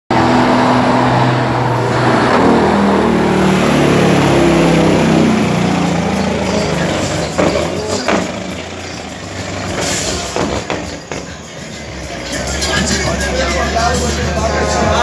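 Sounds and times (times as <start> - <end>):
truck diesel engine under load: 0.1 - 15.0.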